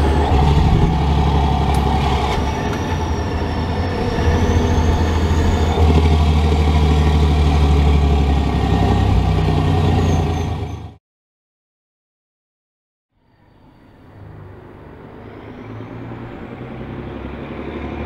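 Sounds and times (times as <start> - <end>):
truck diesel engine drone: 0.0 - 11.0, 13.2 - 18.0.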